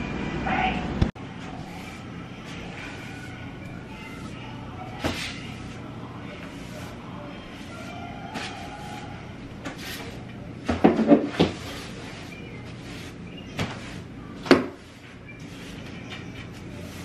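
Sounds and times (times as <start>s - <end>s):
broom sweeping: 1.4s - 10.2s, 11.1s - 17.0s.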